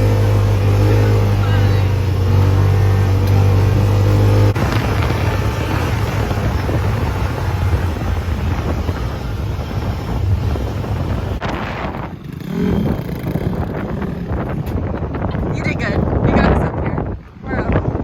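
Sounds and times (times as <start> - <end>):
off-road vehicle engine: 0.0 - 18.0
wind buffeting microphone: 0.0 - 18.0.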